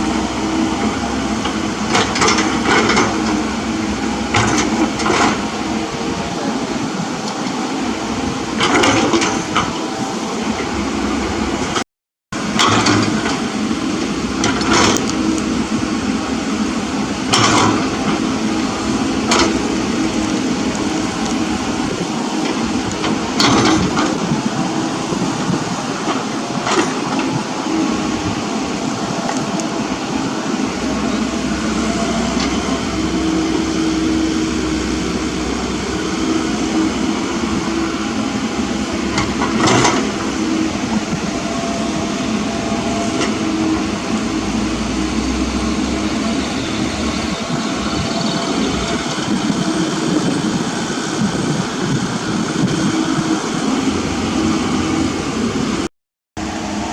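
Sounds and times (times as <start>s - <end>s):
mini excavator engine running: 0.0s - 11.8s, 12.4s - 56.9s.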